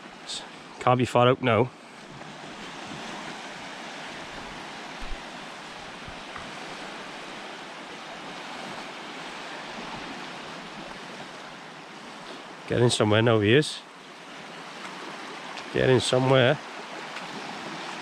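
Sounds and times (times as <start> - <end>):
surf washing on shore: 0.0 - 18.0.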